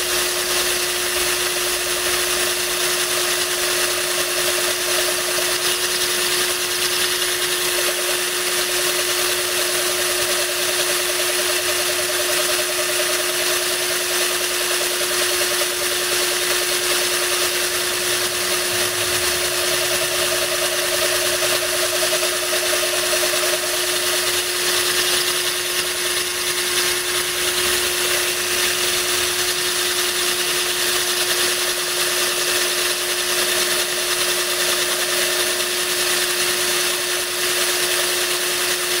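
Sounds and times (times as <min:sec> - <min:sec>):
power drill grinding glass: 0:00.0 - 0:39.0.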